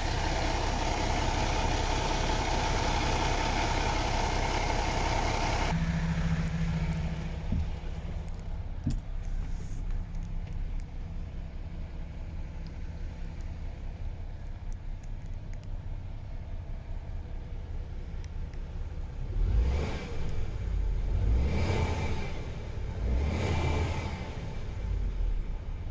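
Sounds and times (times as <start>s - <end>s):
diesel truck engine idling and revving: 0.0s - 25.9s.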